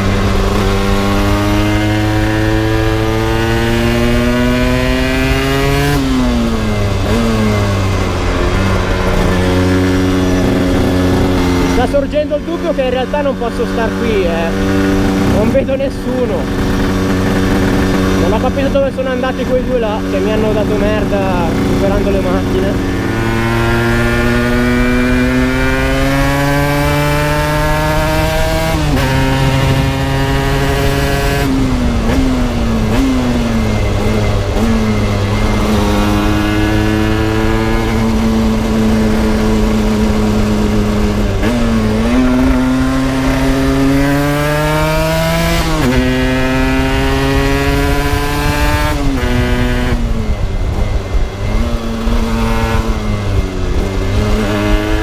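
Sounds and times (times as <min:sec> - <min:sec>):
motorcycle engine accelerating: 0:00.0 - 0:55.0
wind and road rush: 0:00.0 - 0:55.0.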